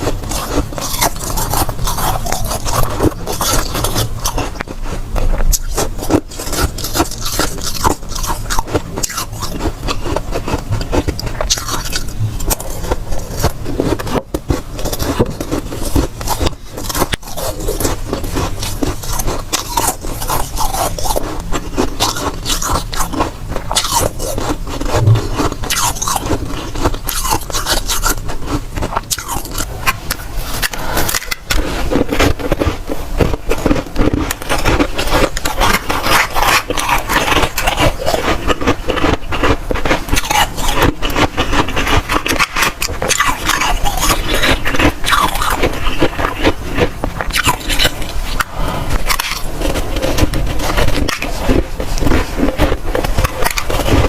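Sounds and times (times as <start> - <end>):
frost being chewed: 0.0 - 54.0.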